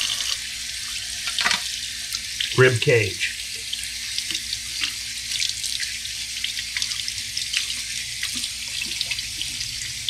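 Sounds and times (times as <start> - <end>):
faucet running: 0.0 - 10.0
water splashing into sink: 0.0 - 10.0.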